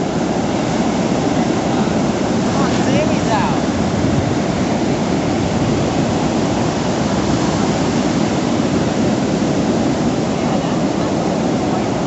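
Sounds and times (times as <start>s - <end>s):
heavy surf breaking: 0.0s - 12.0s.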